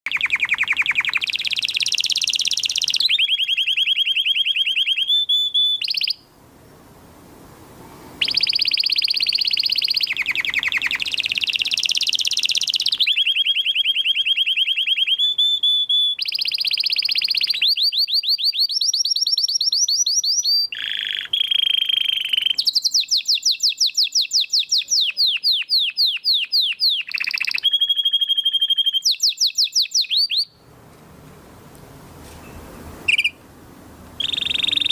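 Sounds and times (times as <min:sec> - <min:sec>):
canary singing trills: 0:00.0 - 0:06.3, 0:08.2 - 0:30.6, 0:32.4 - 0:33.4, 0:34.2 - 0:34.9.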